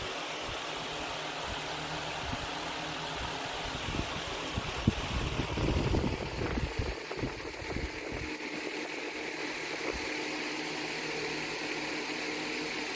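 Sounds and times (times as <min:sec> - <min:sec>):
steady hum and hiss: 0:00.0 - 0:12.9.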